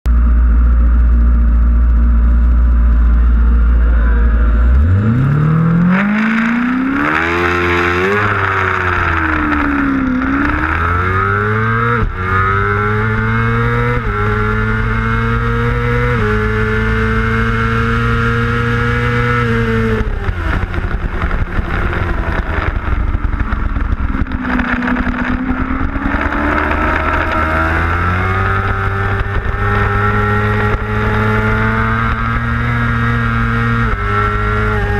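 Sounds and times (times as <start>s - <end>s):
motorcycle engine revving: 0.1s - 34.9s
wind rush over microphone: 5.9s - 34.9s.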